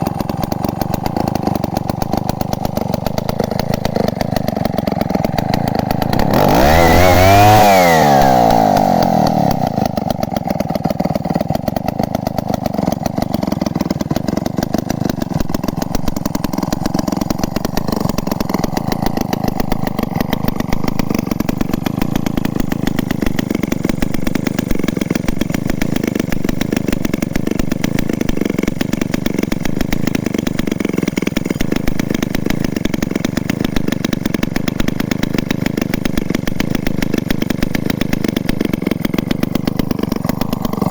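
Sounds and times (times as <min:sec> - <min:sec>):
chainsaw engine idling: 0:00.0 - 0:40.9.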